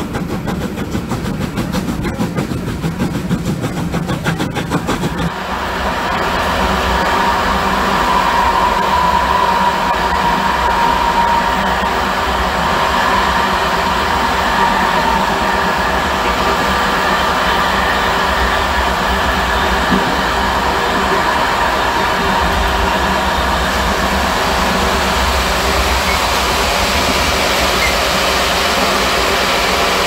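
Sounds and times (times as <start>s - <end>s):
train wheels rolling: 0.0s - 30.0s.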